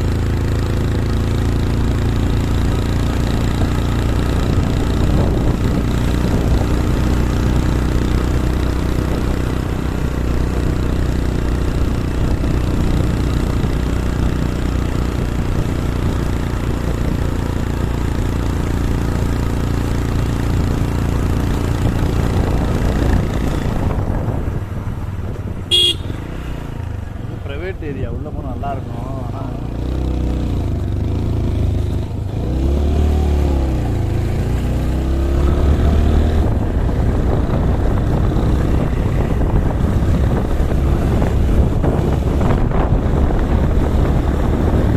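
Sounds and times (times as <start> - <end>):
road and wind noise: 0.0 - 44.9
vehicle engine running: 0.0 - 44.9.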